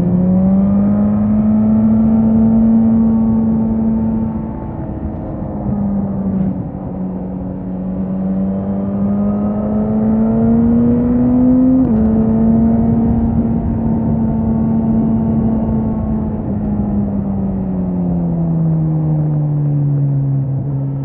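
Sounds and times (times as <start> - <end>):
motorcycle engine accelerating: 0.0 - 21.0
wind and road noise: 0.0 - 21.0.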